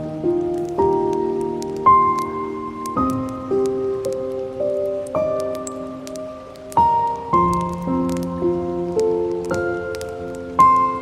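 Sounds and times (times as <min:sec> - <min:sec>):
faint crackles: 0:00.0 - 0:11.0
soft slow solo piano: 0:00.0 - 0:11.0.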